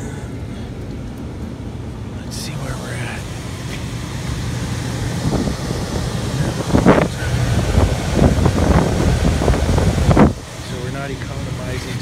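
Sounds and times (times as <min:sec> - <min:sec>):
air buffeting microphone: 0:00.0 - 0:12.0
heat pump blower hum: 0:00.0 - 0:12.0.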